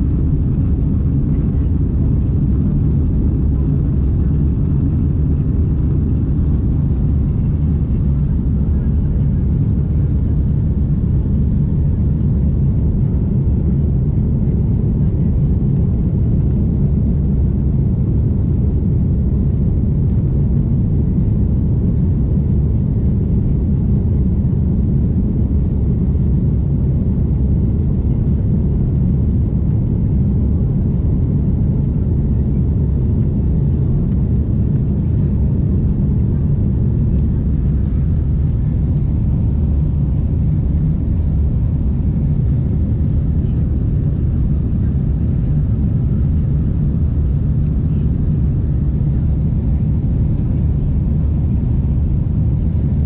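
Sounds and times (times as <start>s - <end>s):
airliner cabin noise: 0.0s - 53.0s.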